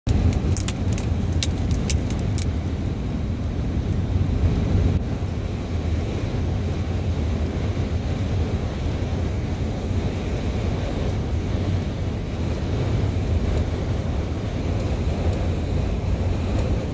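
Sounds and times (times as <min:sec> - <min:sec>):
car road and wind noise: 0:00.1 - 0:16.9.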